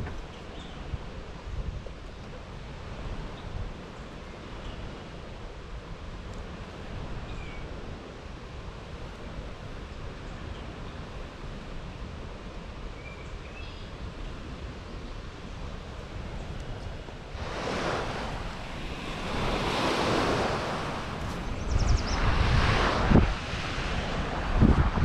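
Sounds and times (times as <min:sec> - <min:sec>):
waves washing on sandy shore: 0:00.0 - 0:13.2, 0:13.9 - 0:25.0
wind noise on microphone: 0:00.0 - 0:25.0.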